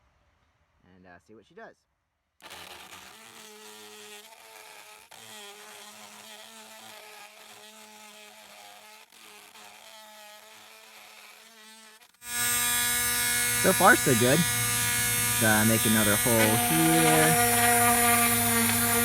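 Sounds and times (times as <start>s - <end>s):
rotary tool motor whining: 2.4s - 19.0s.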